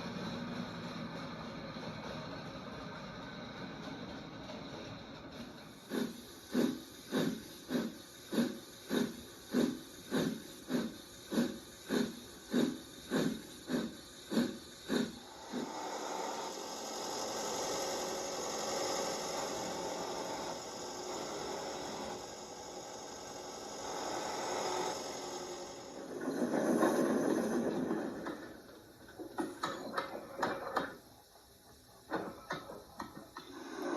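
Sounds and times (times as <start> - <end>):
steam hissing: 0.0 - 33.9
steam locomotive chuffing: 0.0 - 33.9.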